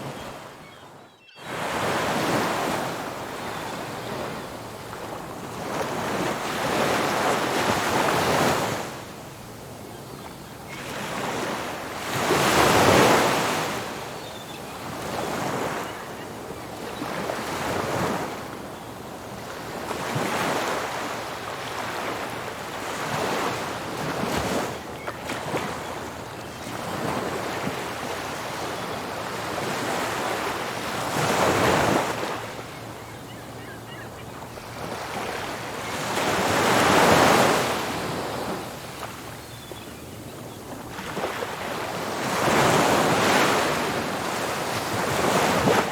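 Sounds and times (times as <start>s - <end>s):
ocean waves breaking on beach: 1.5s - 9.7s, 10.7s - 14.2s, 14.8s - 39.4s, 40.2s - 45.9s.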